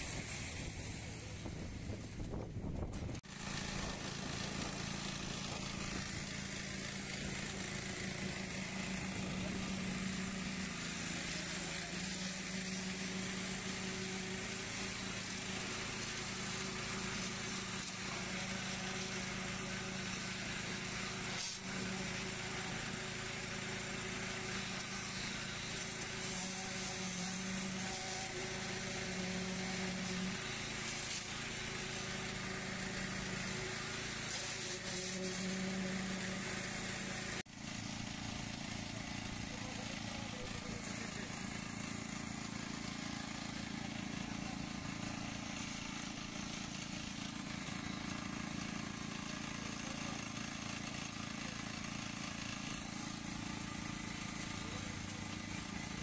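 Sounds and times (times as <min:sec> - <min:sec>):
concrete vibrator motor running: 0:00.0 - 0:56.0.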